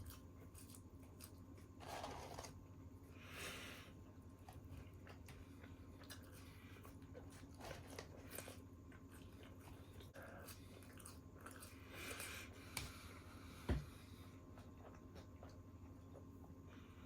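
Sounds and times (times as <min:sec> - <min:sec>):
person chewing food: 0:00.0 - 0:02.6, 0:04.3 - 0:13.2, 0:13.8 - 0:16.4
faint low hum: 0:00.0 - 0:17.0.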